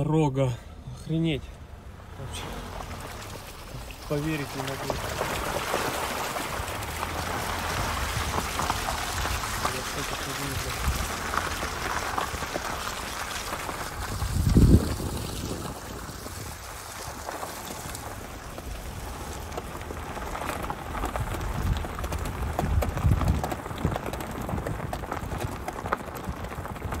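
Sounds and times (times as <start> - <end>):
car rolling on gravel: 0.0 - 27.0.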